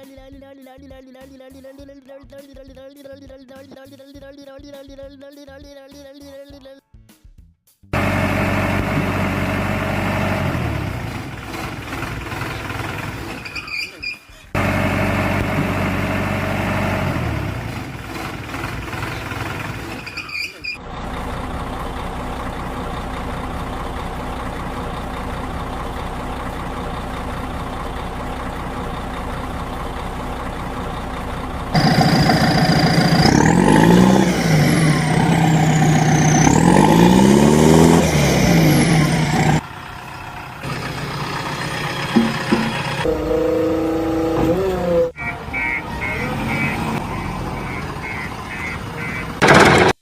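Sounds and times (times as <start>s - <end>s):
vehicle engine: 7.9s - 50.0s.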